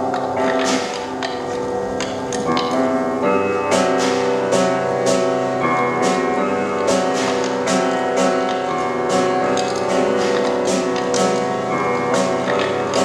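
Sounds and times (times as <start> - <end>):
piano chords ringing: 0.0 - 13.0
sharp percussive hits: 0.0 - 13.0.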